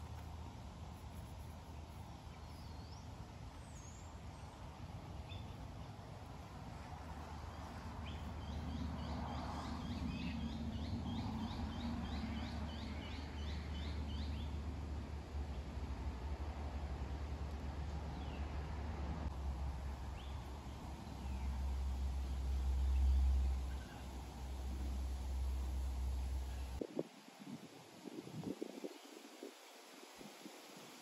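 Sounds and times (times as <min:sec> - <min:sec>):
steady low rumble: 0:00.0 - 0:26.9.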